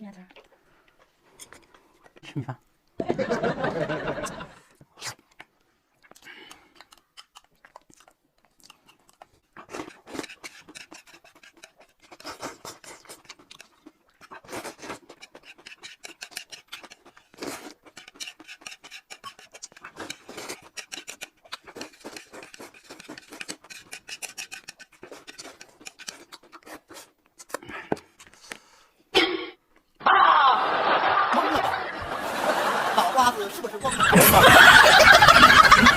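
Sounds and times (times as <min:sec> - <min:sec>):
people chewing and crunching food: 0:00.2 - 0:30.0, 0:31.3 - 0:35.9.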